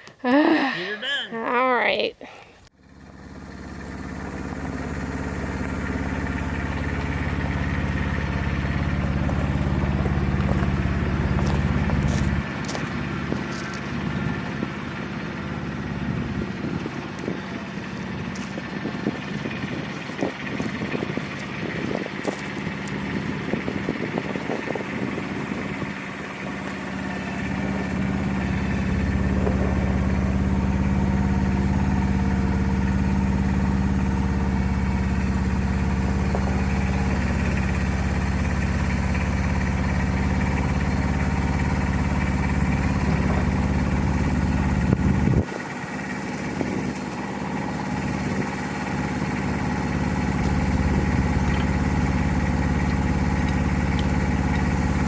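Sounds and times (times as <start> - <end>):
small engine running: 2.8 - 55.0.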